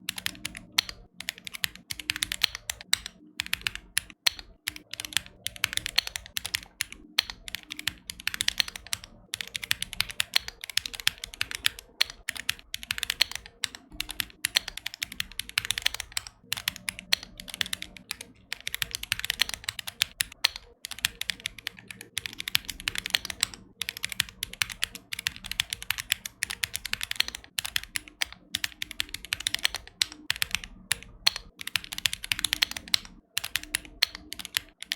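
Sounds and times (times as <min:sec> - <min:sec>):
typing on mechanical keyboard: 0:00.0 - 0:34.9.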